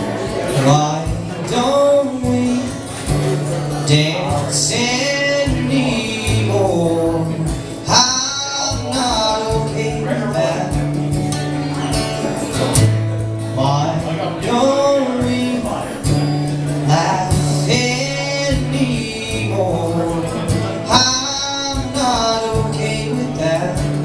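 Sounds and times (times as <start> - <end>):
guitar accompaniment: 0.0 - 24.0
person singing: 0.2 - 11.0, 13.5 - 24.0.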